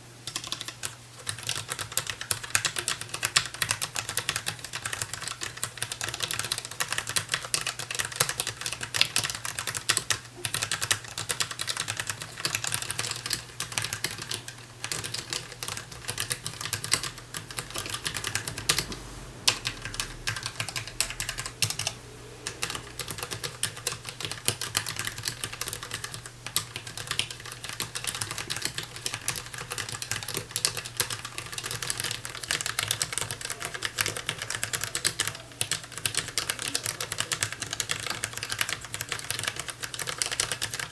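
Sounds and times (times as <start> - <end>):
typing on mechanical keyboard: 0.2 - 40.9.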